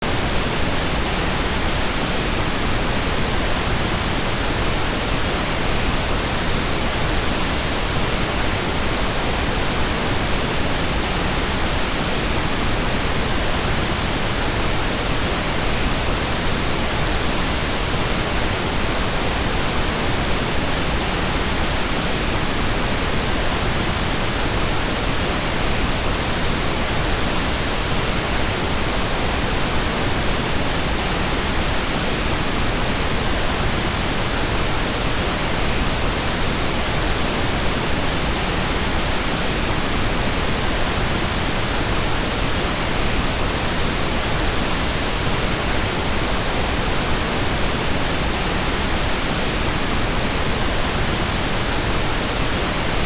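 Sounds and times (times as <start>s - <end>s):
pink noise hiss: 0.0s - 53.0s.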